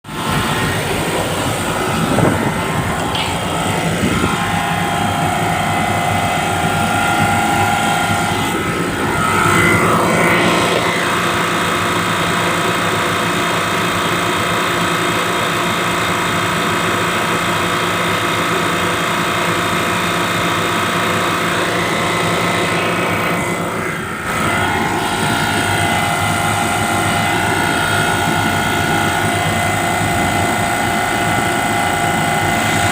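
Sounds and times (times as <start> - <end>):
compressor hum: 0.0 - 32.9
high whine: 0.0 - 32.9.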